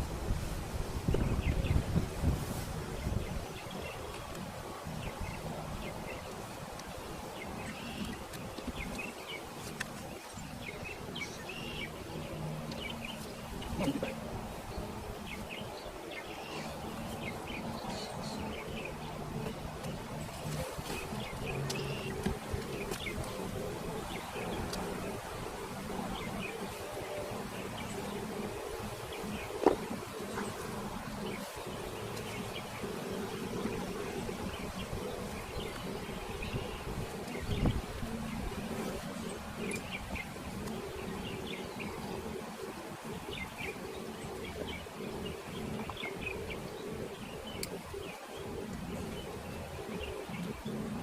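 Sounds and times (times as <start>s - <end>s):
bees buzzing: 0.0s - 51.0s
small birds chirping: 2.8s - 51.0s.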